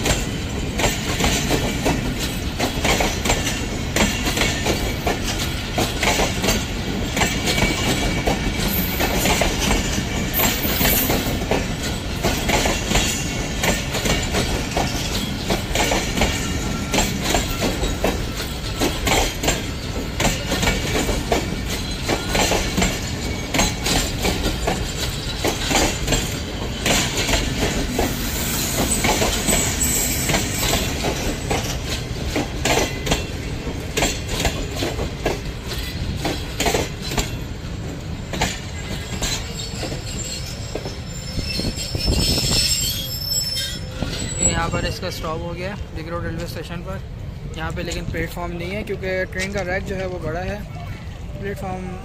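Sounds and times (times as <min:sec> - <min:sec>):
train wheel squeal: 0:00.0 - 0:45.5
train wheels clacking over joints: 0:00.0 - 0:50.6
train rumble: 0:00.0 - 0:52.0.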